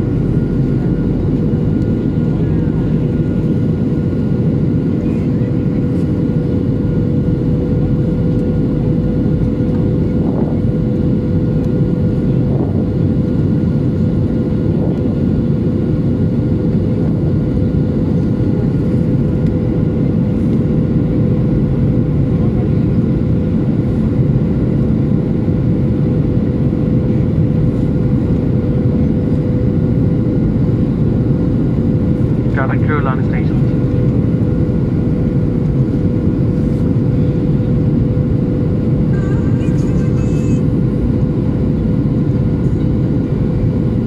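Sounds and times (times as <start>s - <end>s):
airplane cabin engine drone: 0.0s - 44.0s
steady hum tone: 0.0s - 44.0s.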